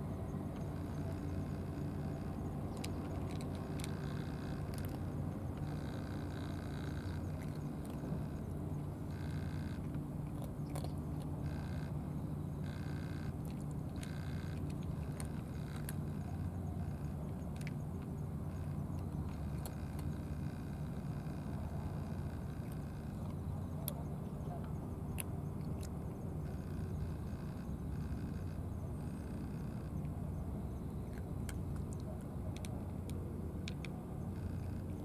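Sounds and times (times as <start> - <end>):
steady low hum: 0.0 - 35.0
cat chewing: 0.3 - 12.0, 12.6 - 28.4, 31.0 - 35.0.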